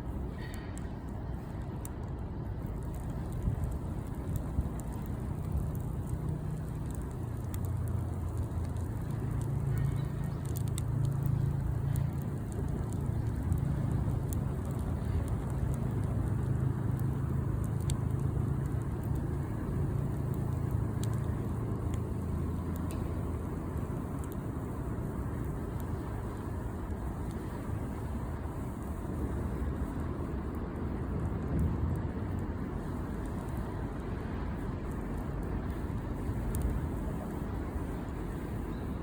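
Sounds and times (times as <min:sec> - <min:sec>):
campfire crackling: 0:00.0 - 0:39.0
low fire rumble: 0:00.0 - 0:39.0
sharp pops and ticks: 0:00.0 - 0:39.0.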